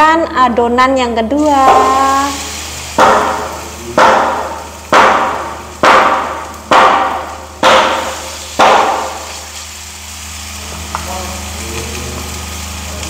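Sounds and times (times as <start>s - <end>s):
oil frying in a pan: 1.4s - 13.0s.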